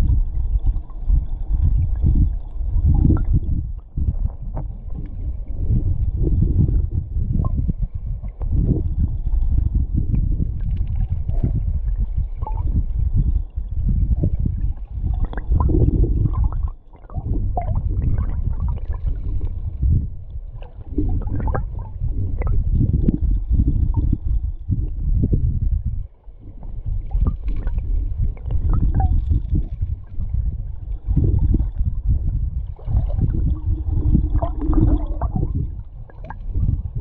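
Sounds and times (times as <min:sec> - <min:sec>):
muffled underwater river rumble: 0:00.0 - 0:37.0.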